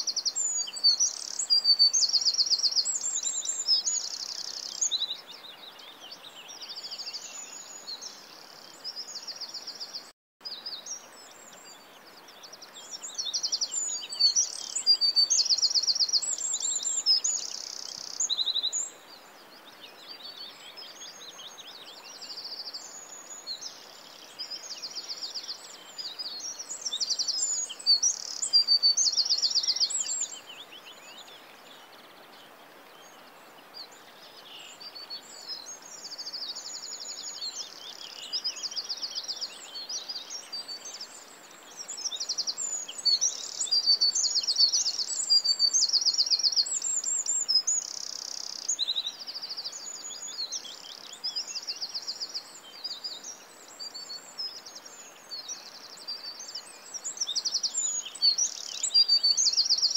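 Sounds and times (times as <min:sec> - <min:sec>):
songbirds trilling and chirping: 0:00.0 - 0:59.9
steady background hiss: 0:00.0 - 0:59.9.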